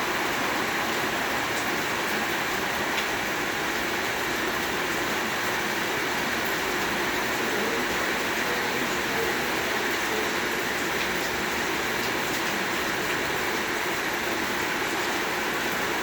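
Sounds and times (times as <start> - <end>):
heavy rain on a roof: 0.0 - 16.0.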